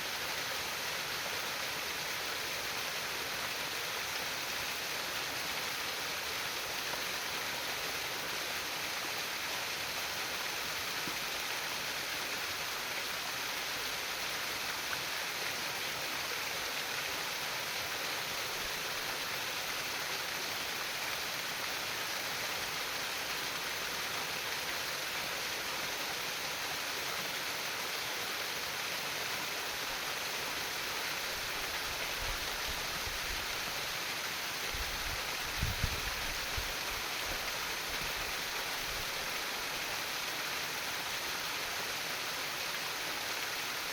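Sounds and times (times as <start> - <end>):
stream trickling over stones: 0.0 - 43.9.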